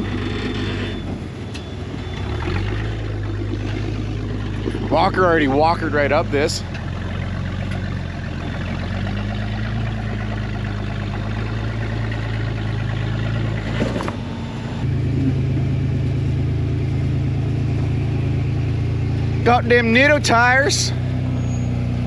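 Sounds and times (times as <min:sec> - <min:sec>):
buggy engine crawling at low revs: 0:00.0 - 0:22.0
second buggy engine running steady: 0:00.0 - 0:22.0.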